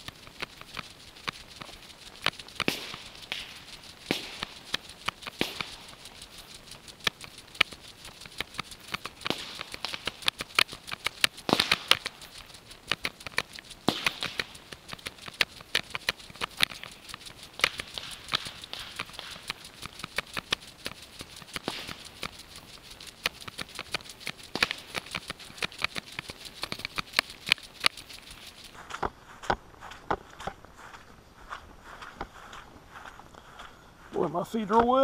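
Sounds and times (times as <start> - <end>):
footsteps crunching on dry grass: 0.0 - 35.0
grass swishing: 0.0 - 35.0.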